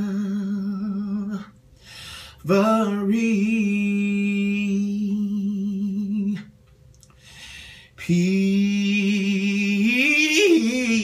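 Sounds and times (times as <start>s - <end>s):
man singing a cappella: 0.0s - 6.7s, 7.7s - 11.0s.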